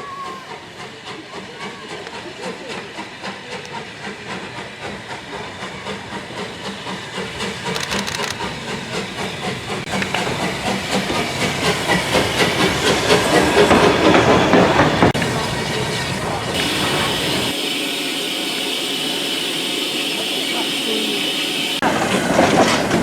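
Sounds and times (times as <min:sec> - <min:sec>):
steam hissing: 0:00.0 - 0:23.0
steam locomotive exhaust beats: 0:00.0 - 0:23.0.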